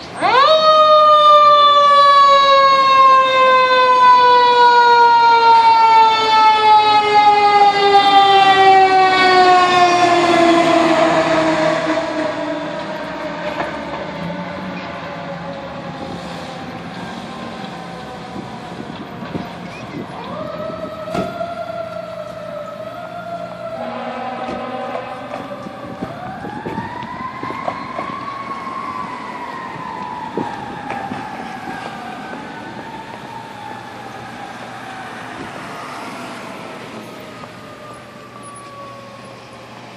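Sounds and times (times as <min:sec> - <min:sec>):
fire truck mechanical siren: 0:00.0 - 0:39.9
fire truck passing: 0:00.0 - 0:39.9.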